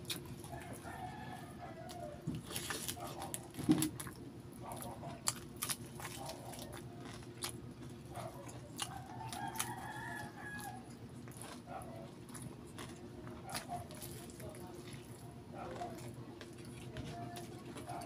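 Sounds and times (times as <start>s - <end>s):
chewing and lip-smacking: 0.0s - 18.0s.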